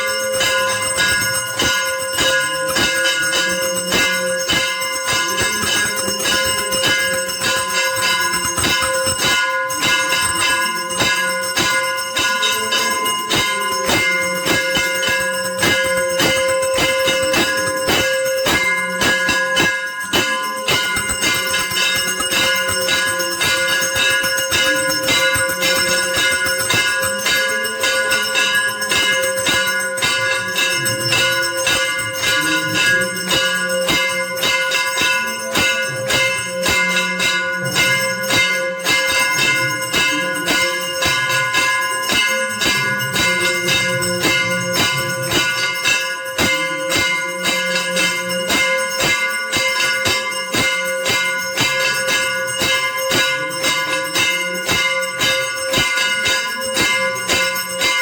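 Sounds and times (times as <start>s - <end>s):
temple bells rung rapidly: 0.0s - 58.0s.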